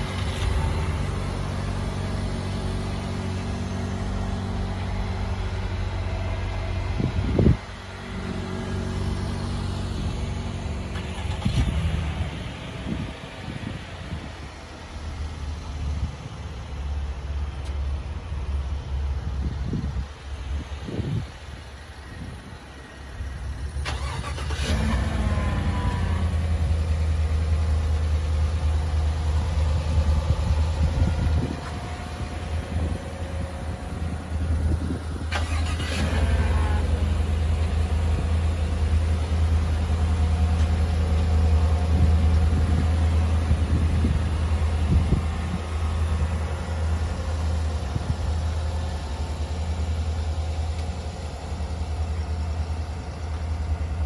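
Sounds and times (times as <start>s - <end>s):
car engine idling: 0.0s - 54.0s
car engine starting: 0.0s - 54.0s.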